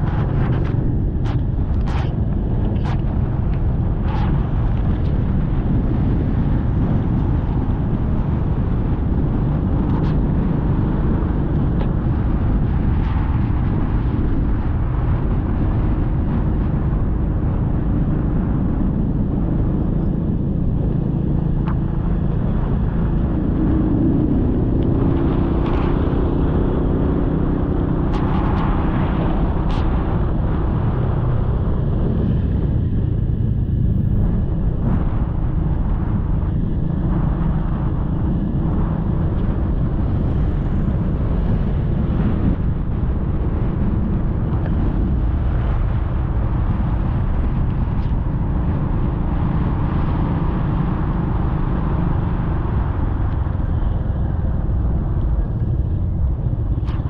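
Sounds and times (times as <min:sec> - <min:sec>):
motorcycle engine drone: 0:00.0 - 0:57.0
wind rumble on microphone: 0:00.0 - 0:57.0.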